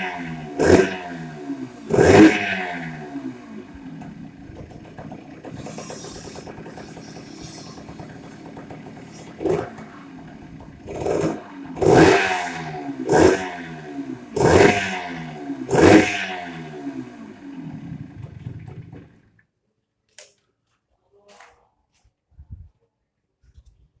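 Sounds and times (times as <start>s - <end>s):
two-stroke engine idling and revving: 0.0s - 19.3s.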